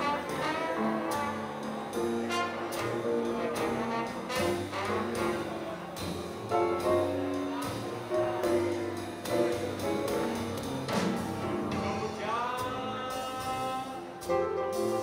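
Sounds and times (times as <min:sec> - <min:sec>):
swing jazz band playing: 0:00.0 - 0:15.0.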